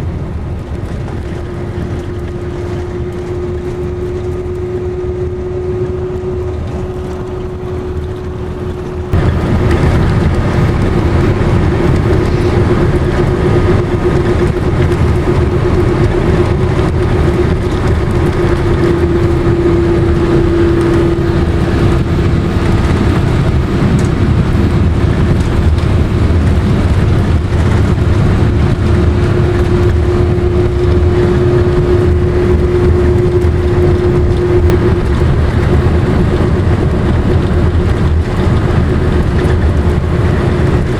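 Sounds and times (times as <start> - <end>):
car driving on highway: 0.0 - 40.9.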